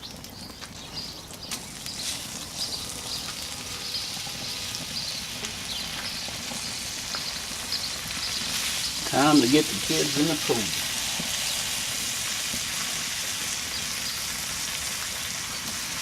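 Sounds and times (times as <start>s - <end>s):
butter sizzling on a griddle: 0.0s - 16.0s.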